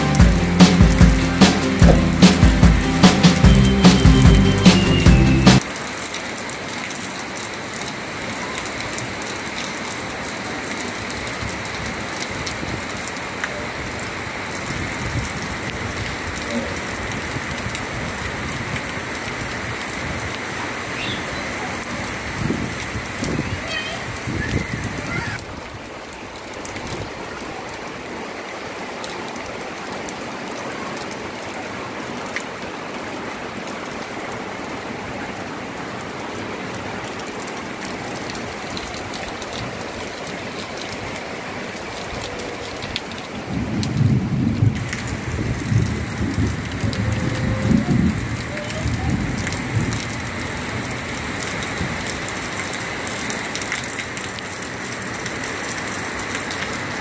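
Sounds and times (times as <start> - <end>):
heavy rain on vegetation: 0.0 - 57.0.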